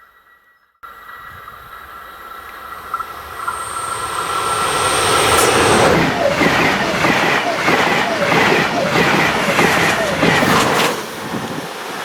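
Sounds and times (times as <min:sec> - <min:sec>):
electric train approaching: 0:00.8 - 0:12.0
high-pitched whines: 0:00.9 - 0:10.9.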